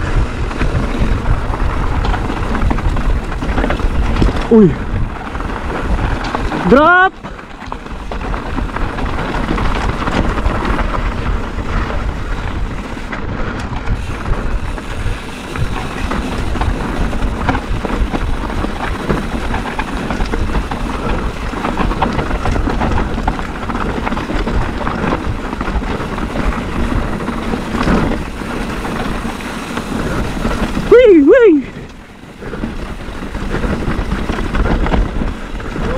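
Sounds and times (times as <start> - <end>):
bike clicks and rattles: 0.0 - 35.9
tyres rumbling on gravel: 0.0 - 35.9
wind rushing over microphone: 0.0 - 35.9.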